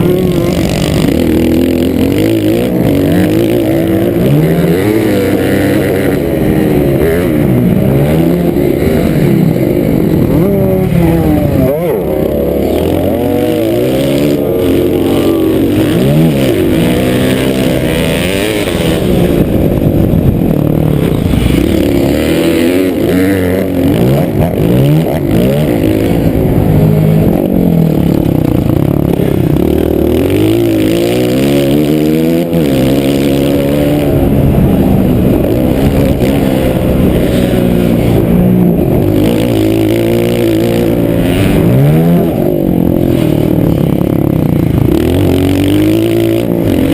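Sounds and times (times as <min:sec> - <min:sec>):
motocross bike engine revving: 0:00.0 - 0:46.9.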